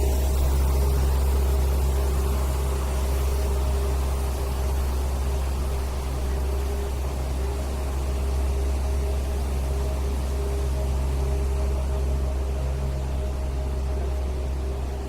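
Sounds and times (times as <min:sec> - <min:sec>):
loud low mechanical drone: 0:00.0 - 0:15.0.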